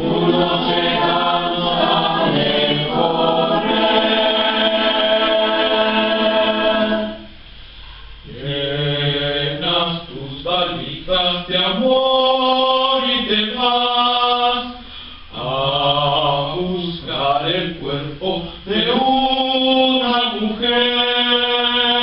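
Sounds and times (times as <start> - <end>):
choir singing unaccompanied: 0.0 - 7.3, 8.3 - 14.7, 15.4 - 22.0.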